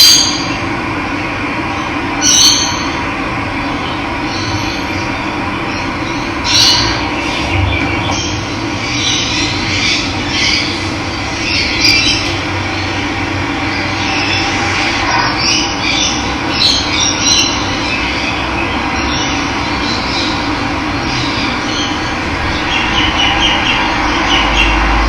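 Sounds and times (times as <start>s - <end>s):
wild birds calling and chirping: 0.0s - 25.0s.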